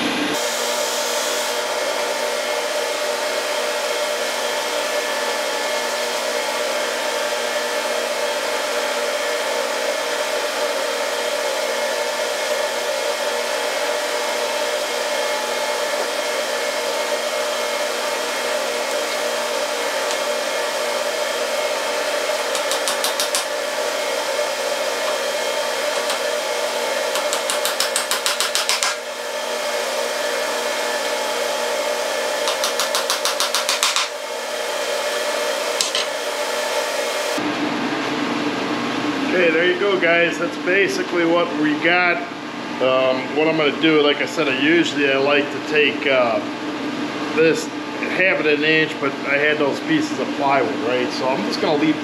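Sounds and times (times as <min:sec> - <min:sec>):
electric motor and fan whirring: 0:00.0 - 0:52.0.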